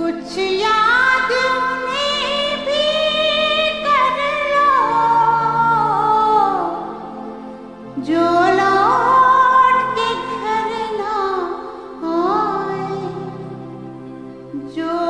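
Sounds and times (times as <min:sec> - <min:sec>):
high voice singing slow melody: 0:00.0 - 0:07.3, 0:07.9 - 0:15.0
quiet sustained accompaniment: 0:00.0 - 0:15.0.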